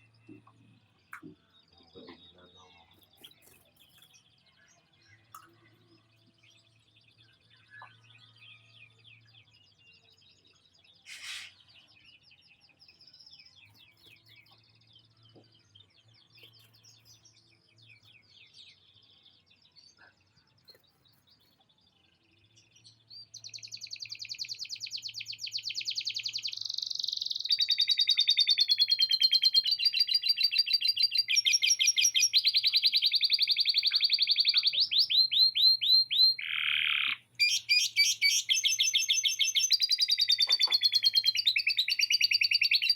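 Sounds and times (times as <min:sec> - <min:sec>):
canary chirps: 0:00.0 - 0:42.9
canary song of fast trills: 0:00.0 - 0:42.9.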